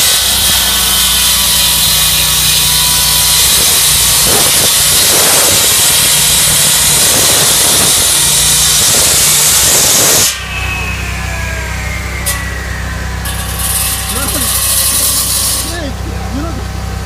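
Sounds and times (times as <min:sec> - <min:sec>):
concrete saw grinding: 0:00.0 - 0:16.4
steady low drone: 0:00.0 - 0:17.0.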